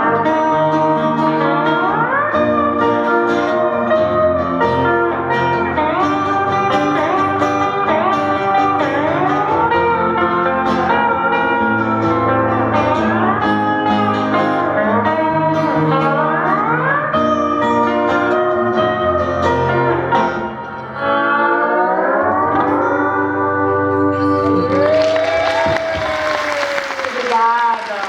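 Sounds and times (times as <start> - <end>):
rock band playing: 0.0 - 27.6
sliding electric guitar notes: 0.0 - 27.6.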